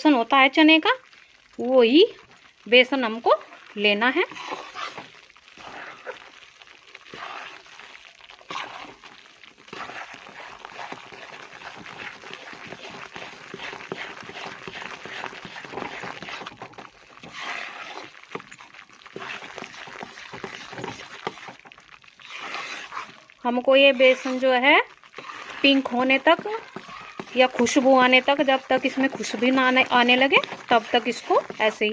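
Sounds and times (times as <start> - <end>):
spatula scraping flour in pan: 3.8 - 6.4, 7.0 - 31.9.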